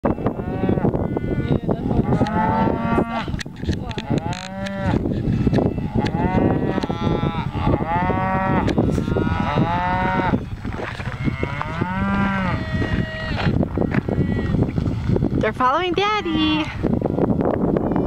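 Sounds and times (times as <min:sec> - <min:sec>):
cows mooing: 0:00.1 - 0:15.4.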